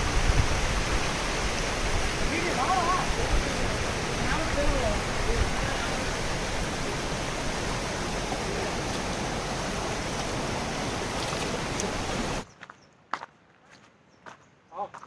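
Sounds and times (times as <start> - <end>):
fast-flowing water rushing: 0.0 - 12.4.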